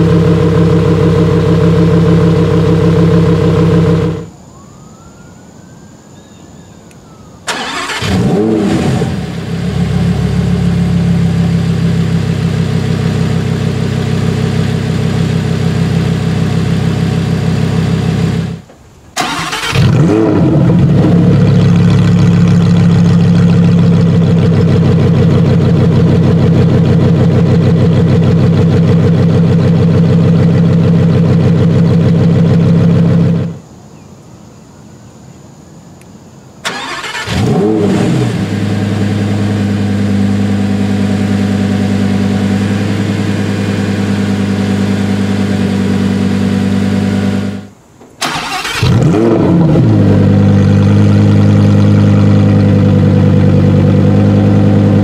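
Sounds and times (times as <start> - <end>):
car engine starting and revving: 0.0 - 4.3, 7.5 - 33.6, 36.6 - 55.0
car engine idling: 0.0 - 4.4, 7.5 - 33.6, 36.6 - 55.0.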